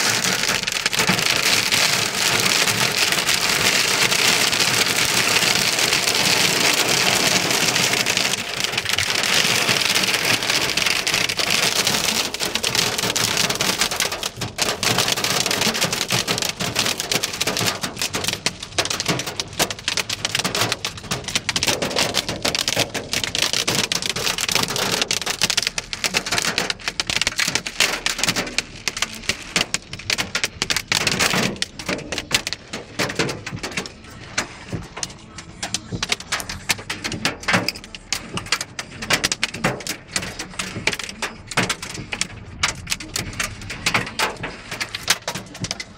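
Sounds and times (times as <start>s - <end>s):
hail and rain on car roof: 0.0s - 45.9s.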